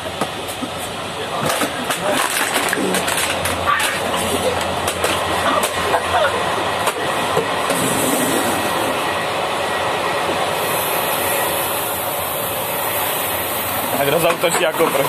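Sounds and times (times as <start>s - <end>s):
train rumble on rails: 0.0s - 15.0s.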